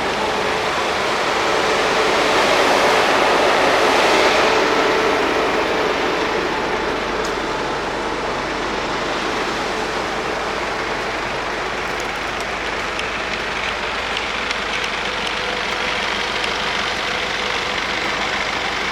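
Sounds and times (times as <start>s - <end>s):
van engine running: 0.0s - 18.9s.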